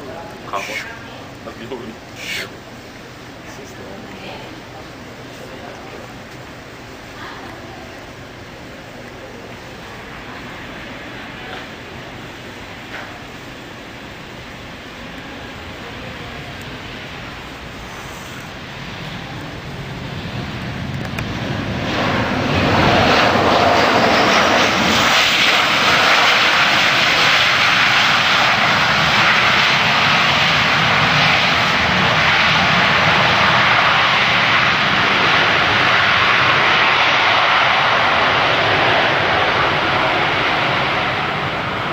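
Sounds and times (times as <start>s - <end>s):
jet airliner engines landing: 0.0s - 41.9s.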